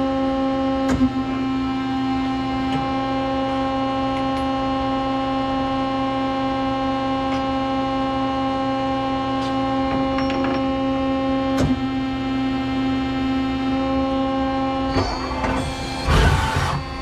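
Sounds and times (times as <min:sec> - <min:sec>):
lathe machine hum: 0:00.1 - 0:17.0.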